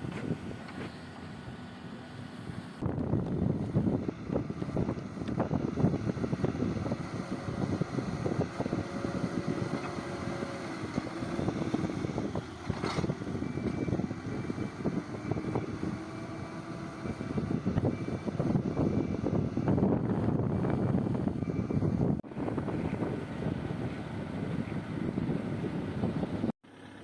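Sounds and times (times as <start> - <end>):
wind buffeting microphone: 0.0 - 1.6, 2.4 - 26.5
diesel engine running: 0.0 - 27.0.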